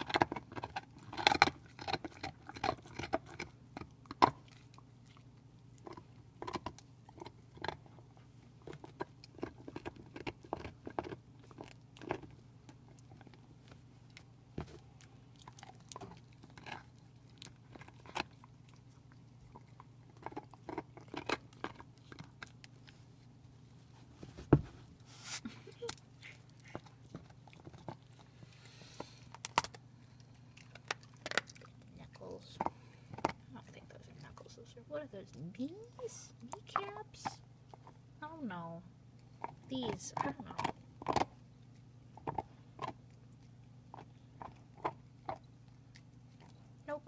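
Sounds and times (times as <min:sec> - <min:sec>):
dog crunching on a bone: 0:00.0 - 0:23.9, 0:25.6 - 0:38.2, 0:39.0 - 0:47.0.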